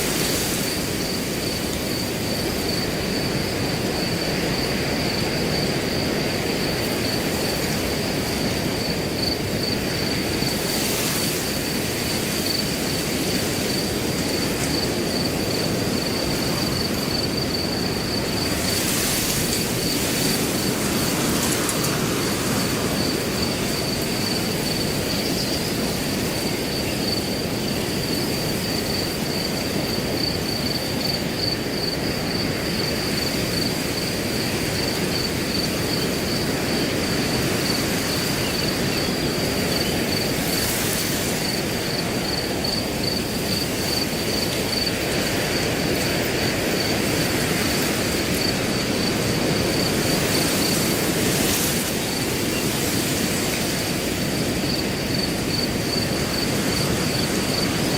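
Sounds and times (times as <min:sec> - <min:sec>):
cricket trilling: 0:00.0 - 0:57.9
wind rushing through grass: 0:00.0 - 0:57.9.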